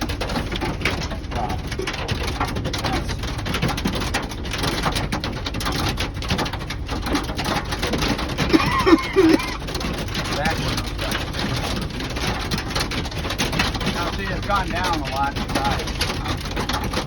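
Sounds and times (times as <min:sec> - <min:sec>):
hail pelting a vehicle roof: 0:00.0 - 0:17.0.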